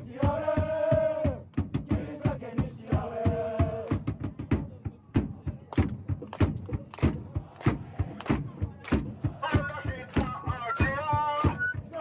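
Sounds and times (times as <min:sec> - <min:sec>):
football supporters chanting: 0:00.0 - 0:12.0
rhythmic claps: 0:00.2 - 0:04.1, 0:05.2 - 0:12.0.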